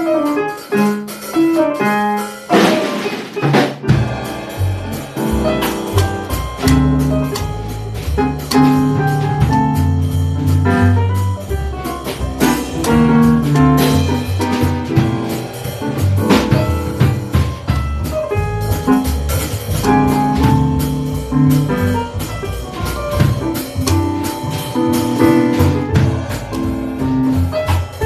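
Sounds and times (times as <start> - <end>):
drum cymbal fill: 0.0 - 28.0
jazz combo playing swing: 0.0 - 28.0
piano figure: 0.0 - 28.0.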